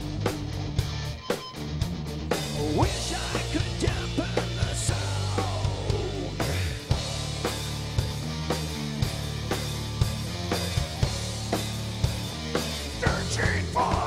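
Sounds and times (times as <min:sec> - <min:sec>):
metal band playing: 0:00.0 - 0:14.0.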